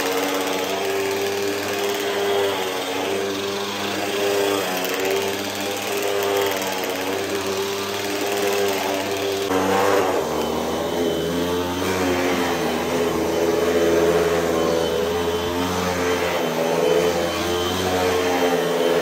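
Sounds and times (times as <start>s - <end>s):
vacuum cleaner on carpet: 0.0s - 19.0s.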